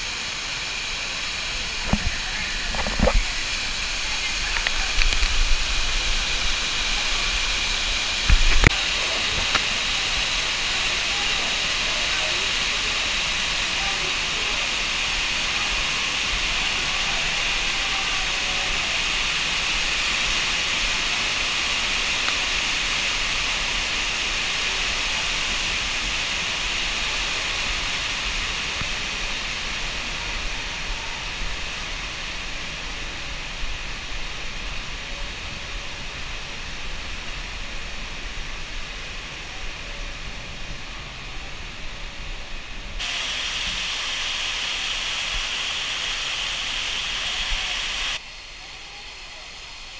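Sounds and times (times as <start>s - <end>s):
fog misters hissing: 0.0s - 49.9s.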